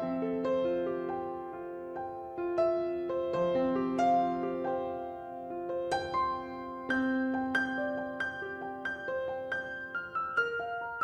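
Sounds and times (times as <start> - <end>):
calm slow piano music: 0.0 - 11.0.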